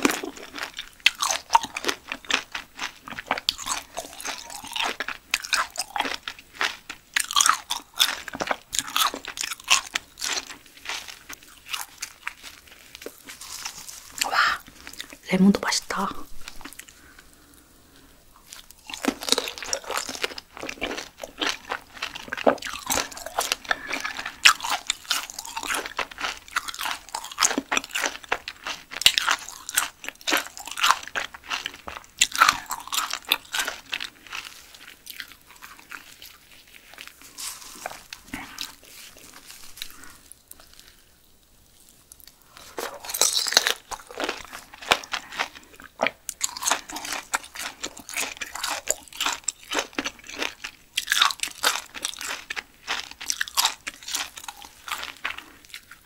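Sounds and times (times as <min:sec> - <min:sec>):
wet crunchy chewing: 0:00.0 - 0:15.2, 0:16.4 - 0:56.0.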